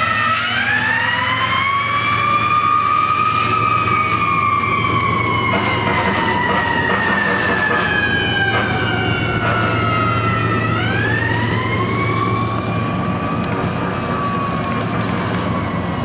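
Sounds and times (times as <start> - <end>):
fire engine siren wailing: 0.0 - 16.0
truck engine hum: 0.0 - 16.0.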